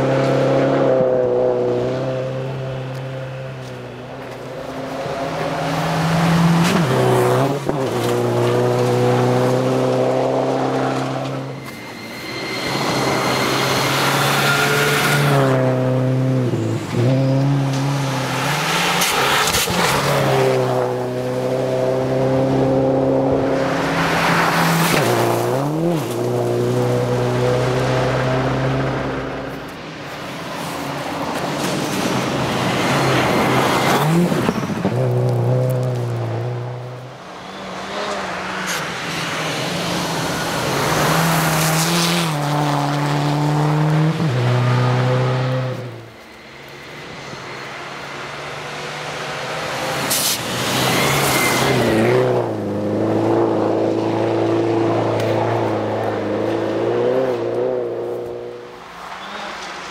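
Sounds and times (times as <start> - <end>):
rally car engine revving: 4.4 - 11.8, 12.6 - 29.6, 32.1 - 46.2, 48.1 - 58.8.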